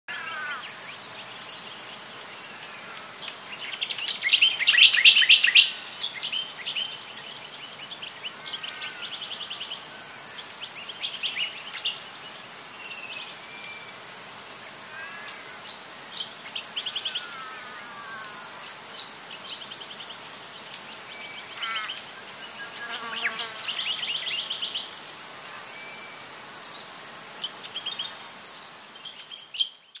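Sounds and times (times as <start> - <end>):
high-pitched insect buzz: 0.1 - 30.0
songbirds chirping and trilling: 0.1 - 30.0.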